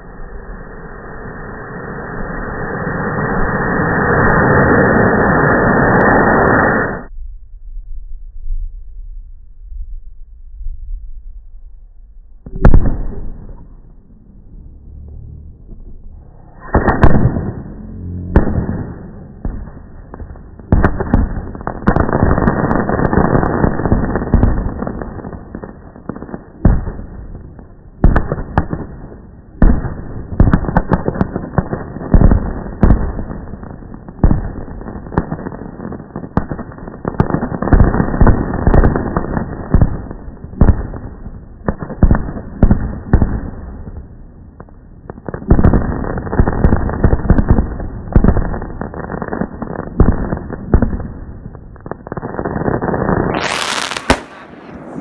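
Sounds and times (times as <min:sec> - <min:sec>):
fireworks bangs and crackling: 0:00.0 - 0:07.1, 0:12.4 - 0:14.2, 0:15.5 - 0:55.0.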